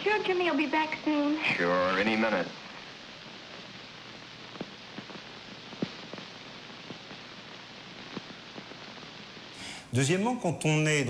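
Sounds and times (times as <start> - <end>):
faint clicks and crackles: 0.0 - 9.6
old film soundtrack hiss: 0.0 - 11.0.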